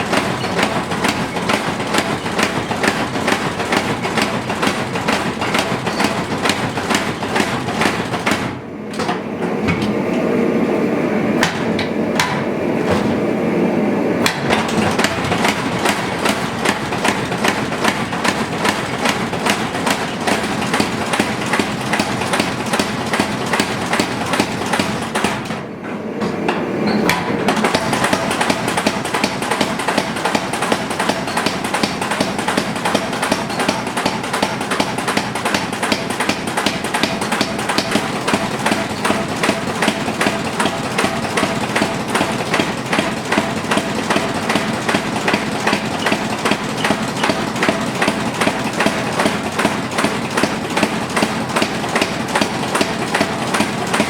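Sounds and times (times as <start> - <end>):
hammer forging steel: 0.0 - 10.8, 11.4 - 13.2, 14.2 - 54.0.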